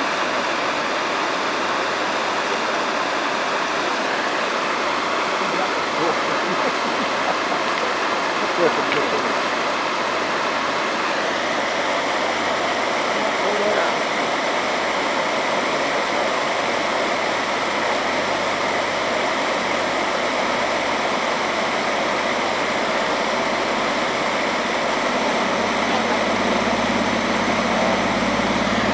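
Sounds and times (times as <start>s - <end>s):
creek water rushing over stones: 0.0s - 28.9s
low motor hum: 0.0s - 28.9s.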